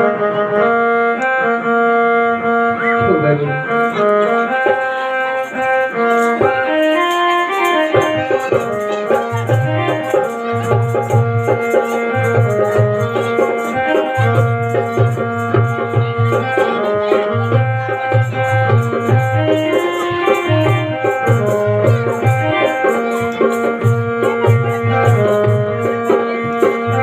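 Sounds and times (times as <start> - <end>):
melody of held notes: 0.0 - 27.0
light rattling percussion: 3.7 - 27.0.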